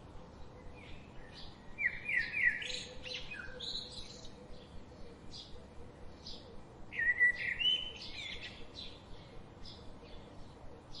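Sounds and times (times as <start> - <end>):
low steady hiss: 0.0 - 11.0
songbirds chirping: 0.0 - 11.0.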